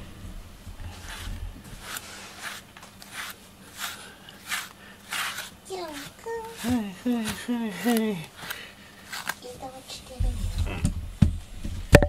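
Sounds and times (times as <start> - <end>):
brush swishing through fur: 0.8 - 10.5.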